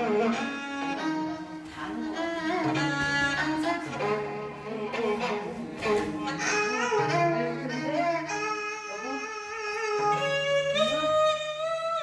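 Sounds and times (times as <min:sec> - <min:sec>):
bowed strings playing held notes: 0:00.0 - 0:12.0.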